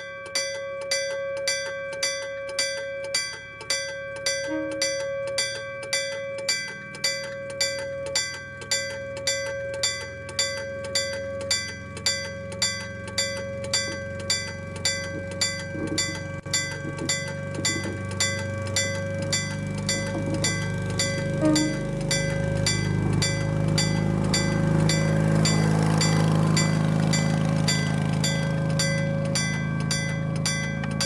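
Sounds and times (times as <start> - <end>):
level crossing bell clanging: 0.0 - 31.0.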